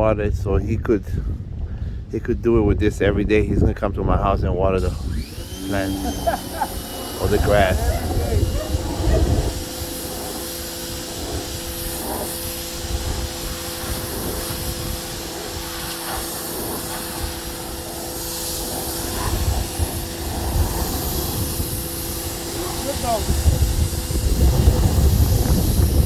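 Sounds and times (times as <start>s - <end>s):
pressure washer motor hum: 4.8s - 26.0s
water spray hiss: 4.8s - 26.0s.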